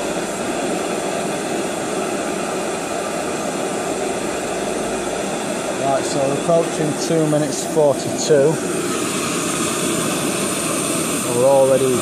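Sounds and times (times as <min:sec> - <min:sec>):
gas stove burning: 0:00.0 - 0:12.0.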